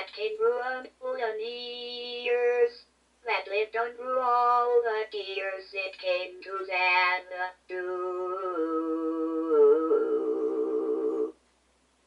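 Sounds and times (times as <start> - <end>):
synthesized voice singing: 0.0 - 11.4.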